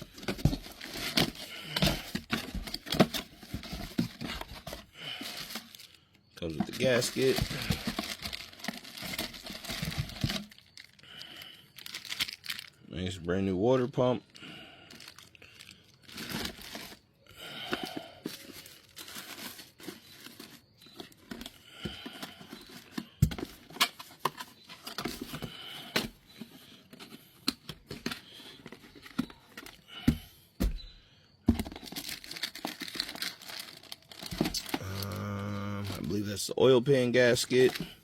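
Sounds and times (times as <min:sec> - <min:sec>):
packaging crinkling and tearing: 0:00.0 - 0:12.8, 0:14.3 - 0:26.4, 0:31.6 - 0:36.2, 0:37.1 - 0:38.0.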